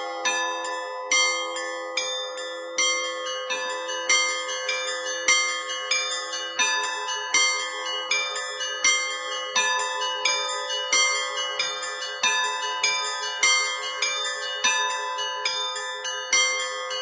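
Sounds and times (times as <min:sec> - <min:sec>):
large bell humming: 0:00.0 - 0:17.0
small bells struck rhythmically: 0:00.0 - 0:17.0.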